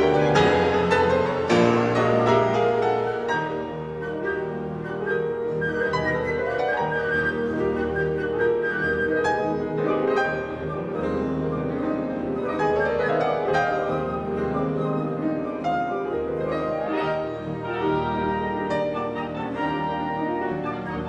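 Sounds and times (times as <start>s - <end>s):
grand piano: 0.0s - 21.0s
symphony orchestra: 0.0s - 21.0s.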